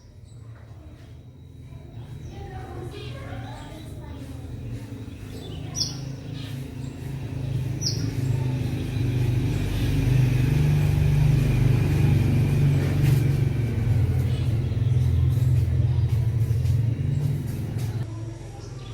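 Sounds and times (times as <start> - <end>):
vehicle engine rumbling: 0.0 - 18.1.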